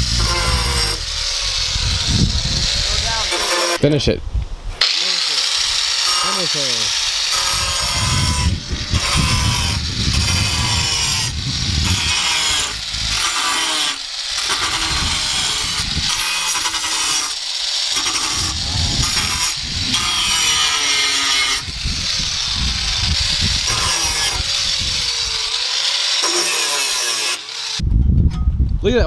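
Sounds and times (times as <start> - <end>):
saw cutting: 0.0 - 27.8.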